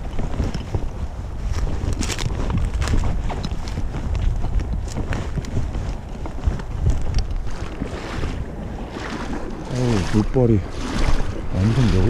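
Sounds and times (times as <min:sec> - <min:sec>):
footsteps through dry grass: 0:00.0 - 0:11.9
wind buffeting microphone: 0:00.0 - 0:12.0.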